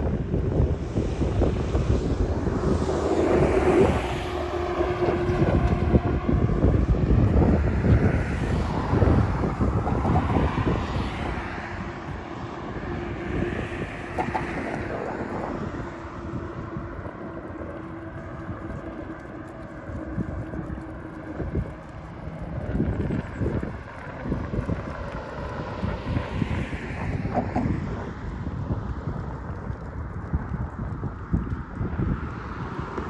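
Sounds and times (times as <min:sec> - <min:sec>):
engine drone: 0:00.0 - 0:33.0
wind buffeting microphone: 0:00.0 - 0:33.0.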